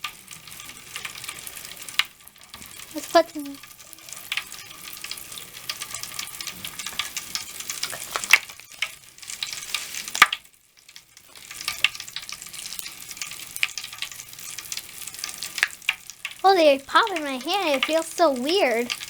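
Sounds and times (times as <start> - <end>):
bath crackles popping and fizzing: 0.0 - 19.0.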